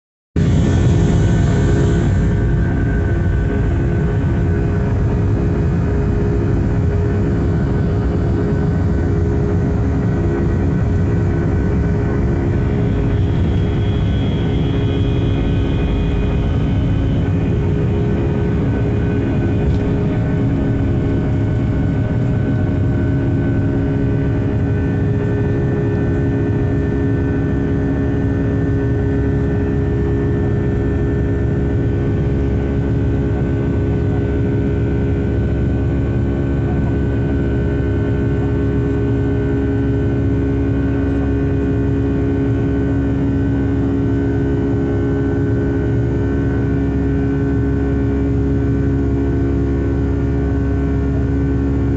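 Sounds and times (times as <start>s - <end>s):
steady whining tones: 0.4s - 48.8s
jet engines running: 0.4s - 51.9s.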